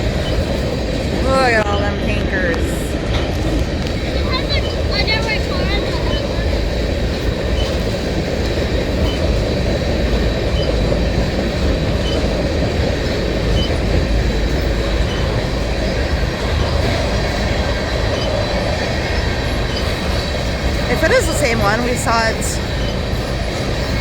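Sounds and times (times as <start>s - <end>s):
steel wheels rumbling on rails: 0.0s - 24.0s.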